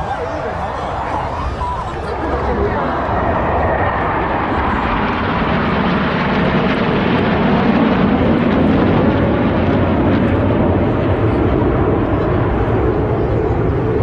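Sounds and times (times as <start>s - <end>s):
aircraft flying over: 0.0s - 14.0s.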